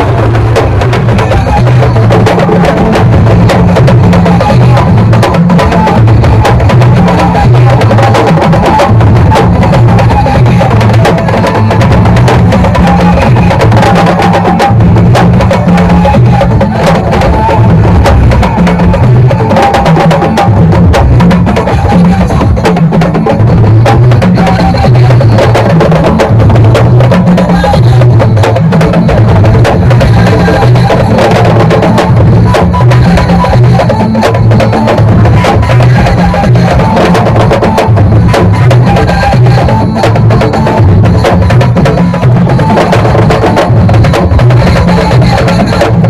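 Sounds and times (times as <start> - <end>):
loud drum-driven music: 0.0 - 46.0.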